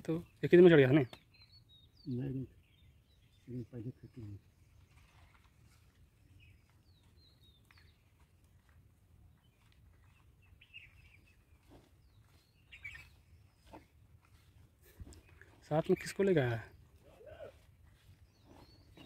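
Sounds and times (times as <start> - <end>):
faint bird chirps: 0.0 - 8.3, 9.3 - 19.0.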